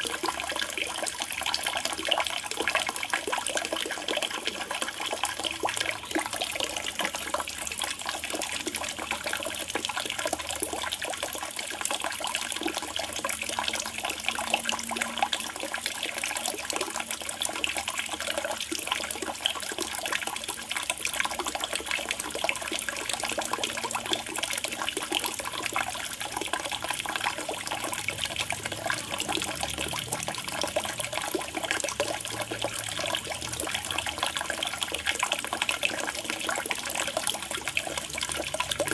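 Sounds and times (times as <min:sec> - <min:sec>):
water trickling into a pond: 0:00.0 - 0:38.9.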